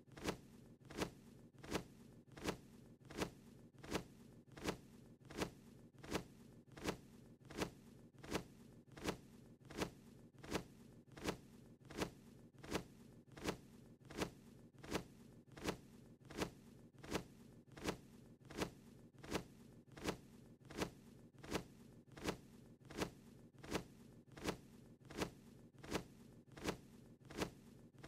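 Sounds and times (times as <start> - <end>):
cartoon wing-flap swishes: 0.1 - 27.6.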